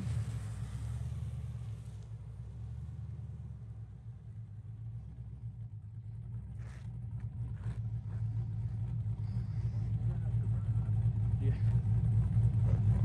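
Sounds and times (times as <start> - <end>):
car driving along a road: 0.0 - 13.0.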